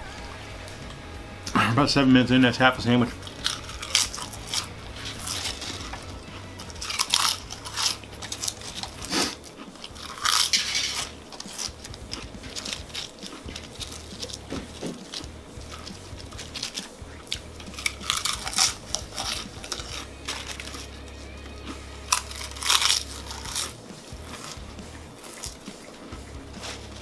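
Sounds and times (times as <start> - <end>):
chips crunching while chewed: 3.2 - 27.0
chips rattling on platter: 3.2 - 27.0.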